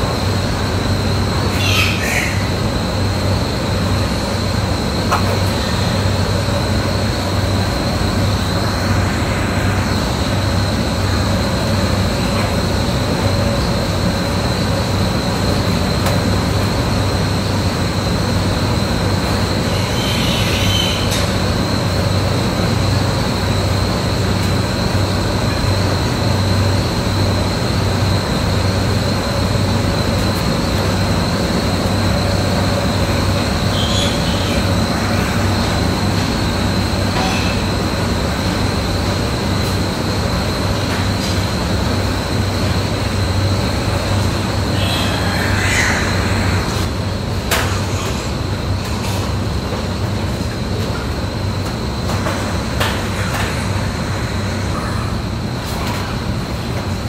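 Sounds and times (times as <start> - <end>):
machine low hum: 0.0 - 57.0.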